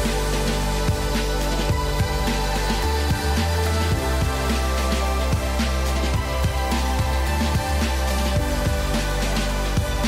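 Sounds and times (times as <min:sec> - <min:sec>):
background music with bass and drums: 0:00.0 - 0:10.0.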